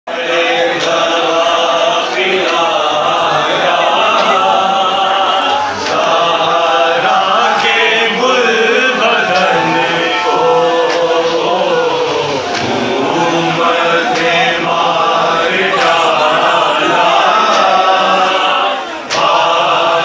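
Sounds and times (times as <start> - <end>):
crowd of men chanting: 0.1 - 20.0.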